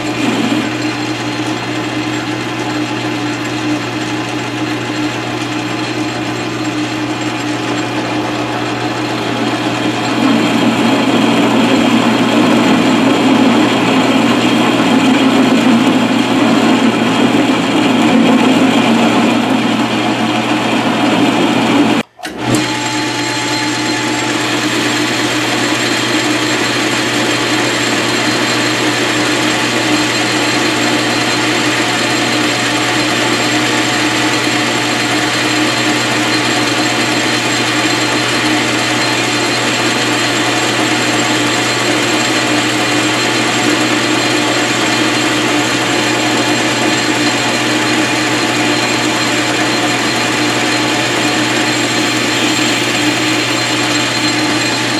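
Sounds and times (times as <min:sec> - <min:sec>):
lathe boring metal: 0:00.0 - 0:54.9.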